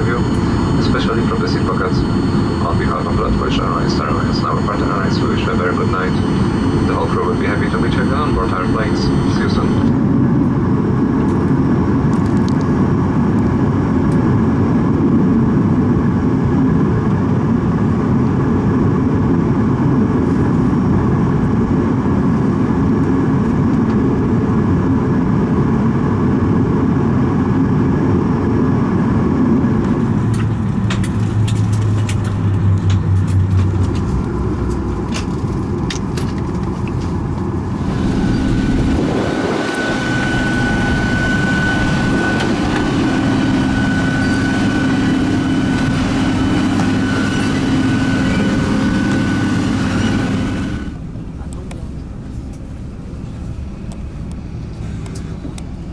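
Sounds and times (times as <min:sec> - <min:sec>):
low hum: 0:00.0 - 0:17.6, 0:19.8 - 0:55.9
aircraft cabin rumble: 0:00.0 - 0:55.9.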